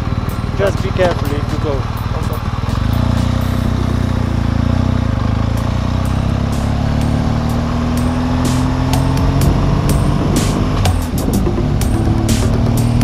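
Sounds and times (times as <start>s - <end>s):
motorcycle engine pulling away: 0.0s - 13.0s.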